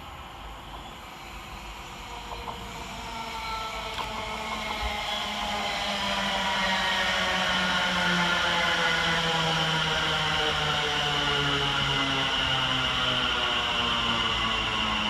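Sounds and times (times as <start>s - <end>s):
electric train hum and whine: 0.0s - 15.0s
rail noise: 0.0s - 15.0s.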